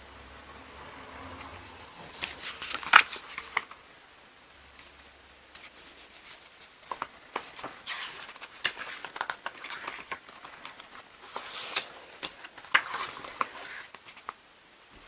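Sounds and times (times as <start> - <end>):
pages turning: 1.3 - 3.8, 4.8 - 14.4
paper rustles: 1.4 - 3.8, 4.8 - 14.4.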